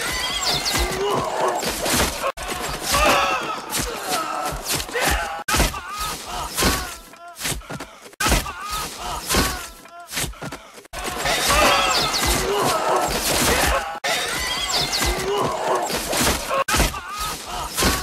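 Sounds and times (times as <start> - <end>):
men groaning and crying out: 0.7 - 18.0.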